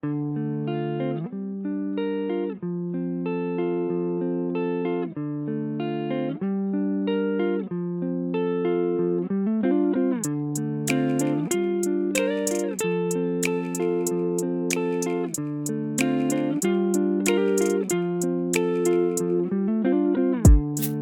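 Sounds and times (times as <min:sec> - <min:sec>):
plucked guitar chords: 0:00.0 - 0:21.0.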